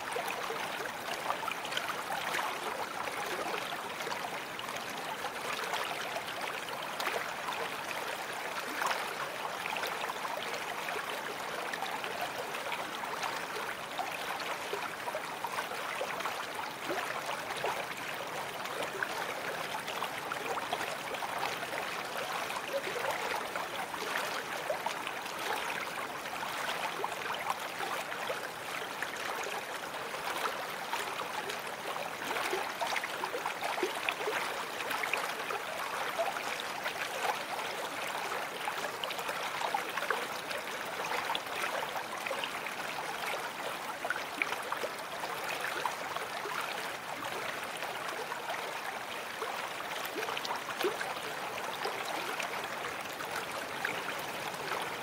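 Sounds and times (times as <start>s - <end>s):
brook water running: 0.0s - 55.0s.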